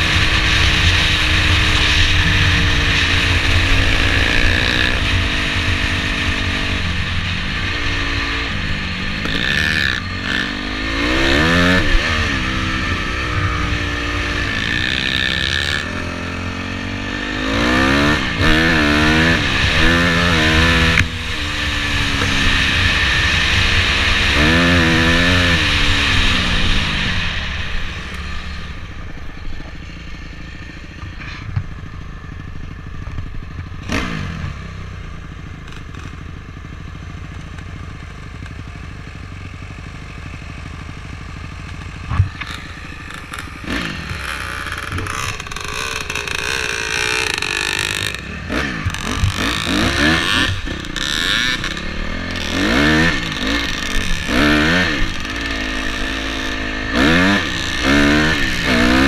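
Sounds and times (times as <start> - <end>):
dirt bike engine revving: 0.0 - 37.3, 39.4 - 59.0.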